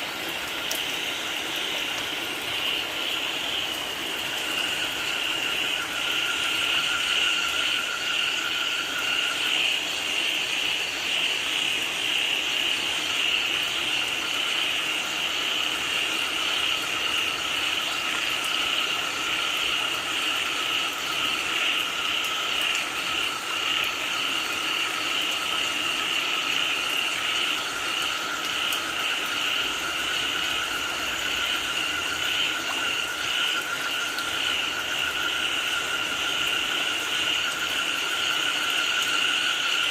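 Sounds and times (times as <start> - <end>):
frogs calling: 0.0 - 39.9
steady rain: 0.0 - 39.9.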